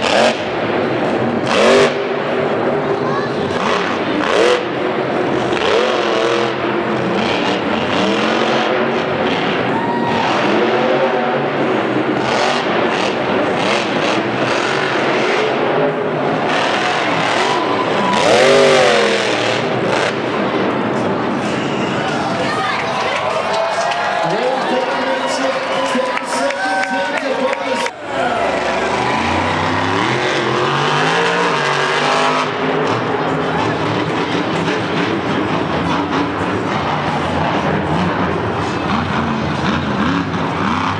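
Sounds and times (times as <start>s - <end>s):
crowd din: 0.0s - 40.9s
monster truck engines revving: 0.0s - 40.9s.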